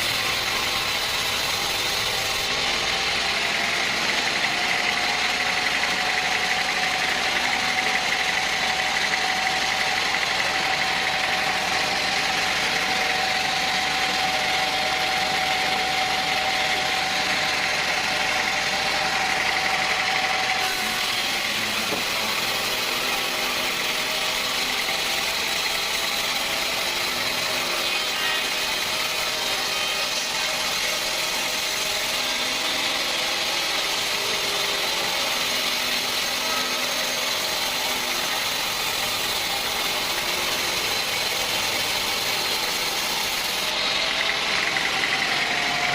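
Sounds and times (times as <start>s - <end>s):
sawmill machinery humming: 0.0s - 45.9s.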